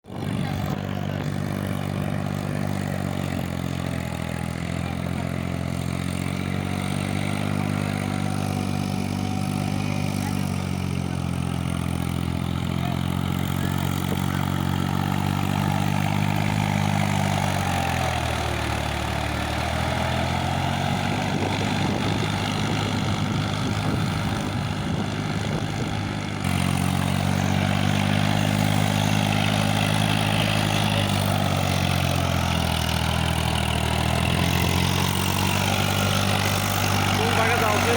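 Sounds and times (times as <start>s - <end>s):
diesel tractor engine running: 0.0s - 37.9s.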